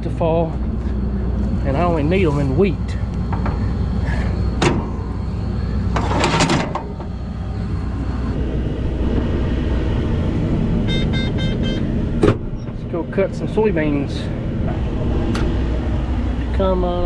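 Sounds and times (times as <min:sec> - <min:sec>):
combine engine rumbling: 0:00.0 - 0:17.0.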